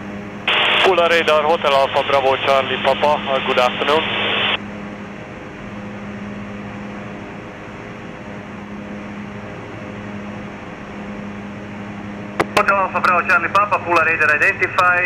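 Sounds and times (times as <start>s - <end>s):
propeller plane engine drone: 0.0s - 15.0s
steady low hum: 0.0s - 15.0s.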